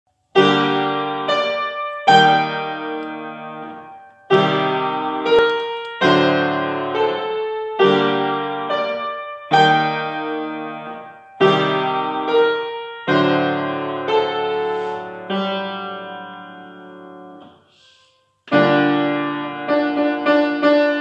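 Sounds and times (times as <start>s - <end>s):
grand piano chords: 0.3s - 17.7s, 18.4s - 21.0s.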